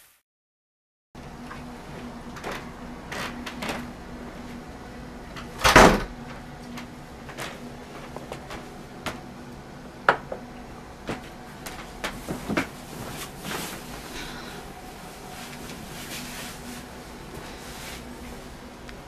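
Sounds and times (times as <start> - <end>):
faint steady hum: 1.2 - 19.0.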